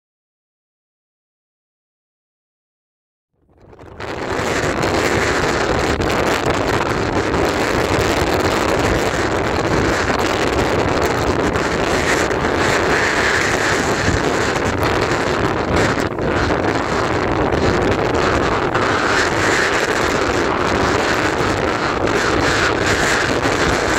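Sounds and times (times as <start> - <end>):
storm wind buffeting microphone: 3.5 - 23.9.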